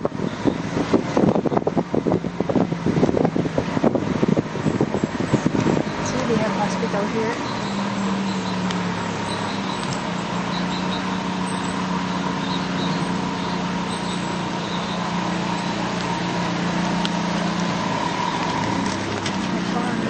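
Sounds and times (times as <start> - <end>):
car engine hum: 0.0 - 20.0
road noise rushing: 0.0 - 20.0.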